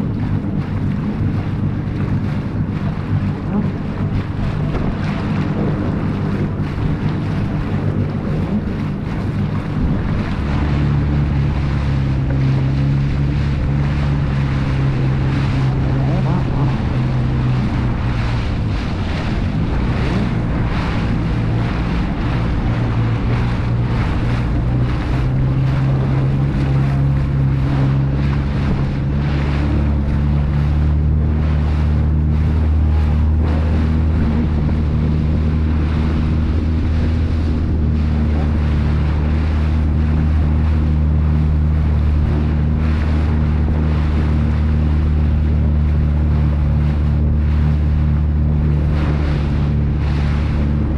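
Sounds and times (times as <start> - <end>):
motorboat engine drone: 0.0 - 50.9
water rushing past hull: 0.0 - 50.9
wind buffeting microphone: 0.0 - 50.9.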